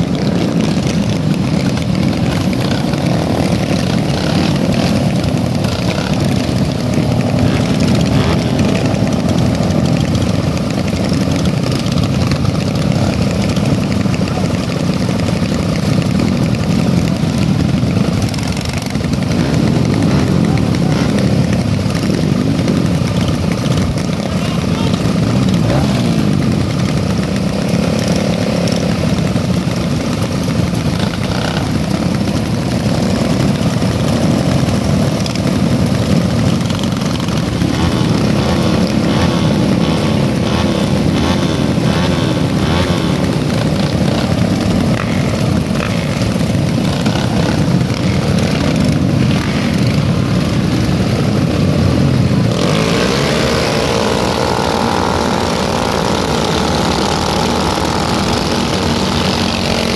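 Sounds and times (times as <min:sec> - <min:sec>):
motorcycles idling and revving: 0:00.0 - 0:59.9.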